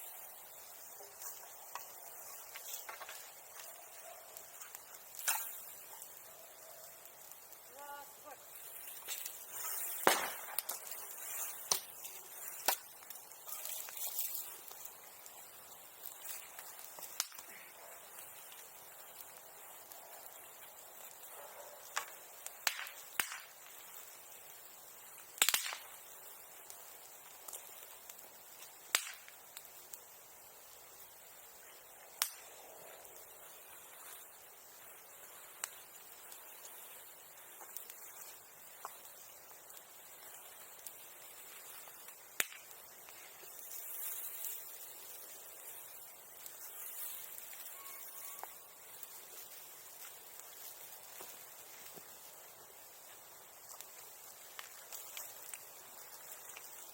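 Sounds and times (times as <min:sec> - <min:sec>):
bonfire crackling: 0:00.0 - 0:56.9.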